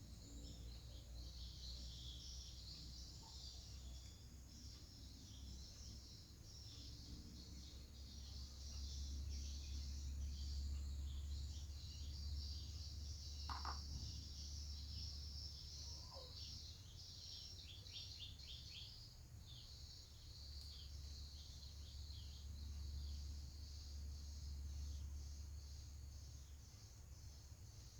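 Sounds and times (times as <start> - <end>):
birds and insects chirping: 0.0 - 27.9.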